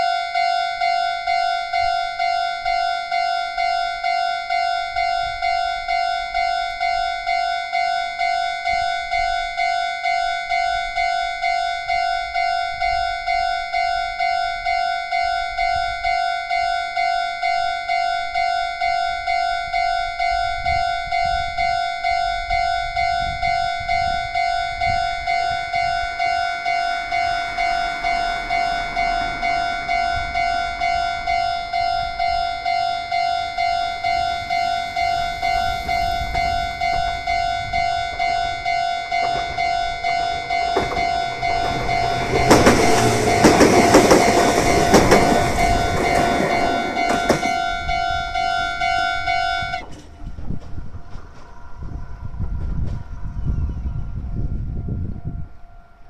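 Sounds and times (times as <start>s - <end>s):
level-crossing alarm pulsing tone: 0.0s - 50.0s
train wheel and rail noise: 0.0s - 56.0s.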